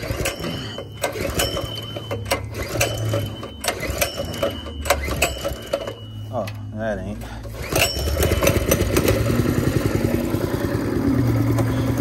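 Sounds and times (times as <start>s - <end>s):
small engine running: 0.0s - 6.1s, 7.2s - 12.0s.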